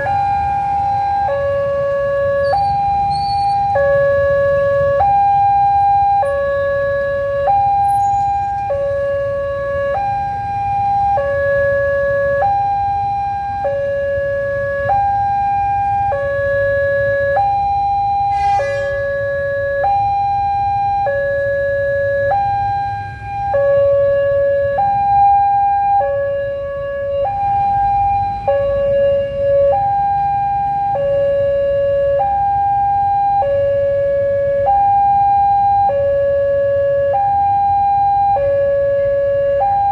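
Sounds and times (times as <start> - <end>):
low traffic rumble: 0.0 - 39.9.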